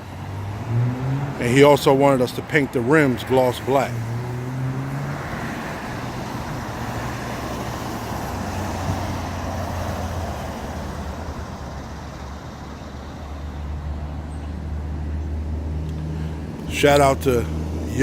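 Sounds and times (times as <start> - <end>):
road noise hiss: 0.0 - 18.0.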